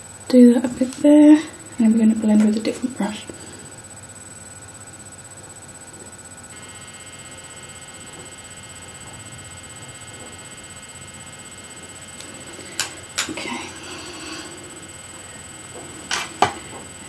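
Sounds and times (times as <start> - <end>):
faint high electronic whine: 0.0 - 17.0
room hum and hiss: 0.0 - 17.0.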